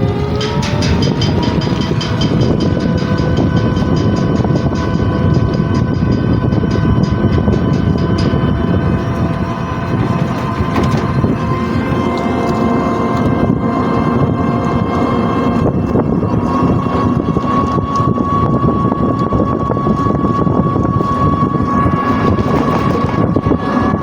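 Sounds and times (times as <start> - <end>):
steady whining tones: 0.0 - 24.0
vehicle engine and road rumble: 0.0 - 24.0.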